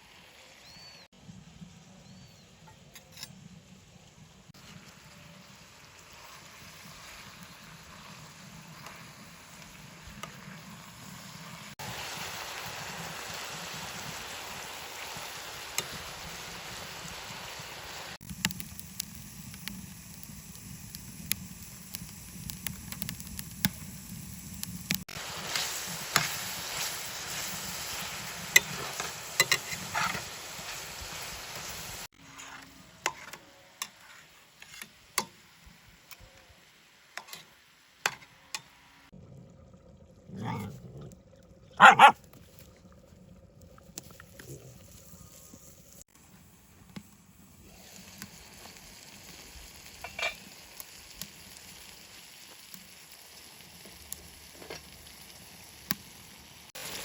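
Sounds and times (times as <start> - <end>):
food sizzling in a pan: 0.0 - 1.1, 4.5 - 39.2, 44.0 - 57.0.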